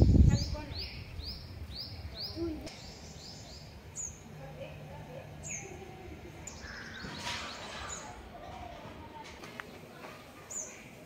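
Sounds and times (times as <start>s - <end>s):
birds chirping: 0.0s - 11.0s
low background murmur: 1.9s - 11.0s.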